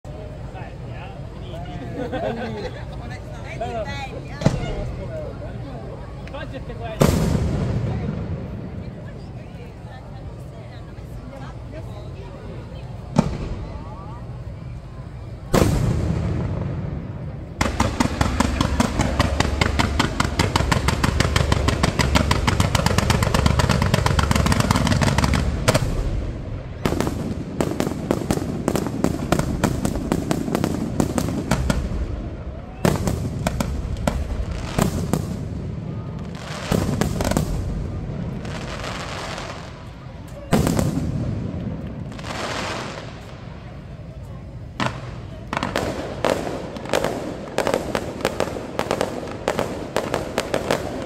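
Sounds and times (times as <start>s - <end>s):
fireworks bangs and crackles: 2.9s - 51.0s.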